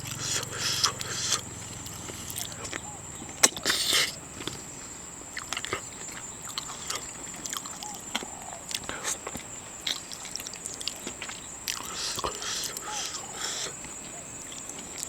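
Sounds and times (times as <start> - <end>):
eating clicks and smacks: 0.0 - 4.6, 5.3 - 15.0.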